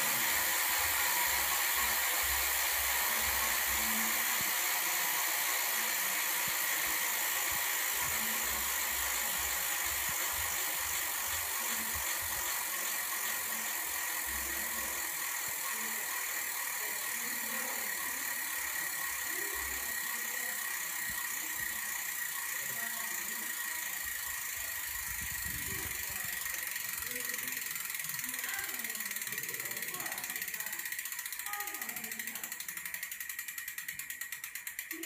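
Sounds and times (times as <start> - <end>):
bicycle freehub ratchet clicking: 0.0 - 35.0.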